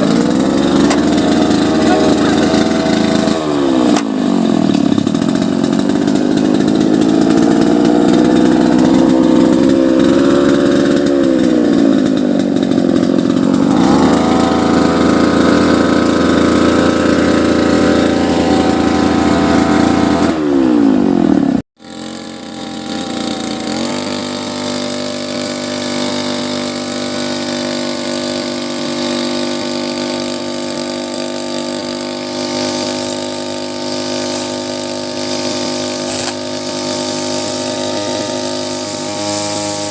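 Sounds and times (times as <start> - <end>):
small petrol engine revving: 0.0 - 39.9.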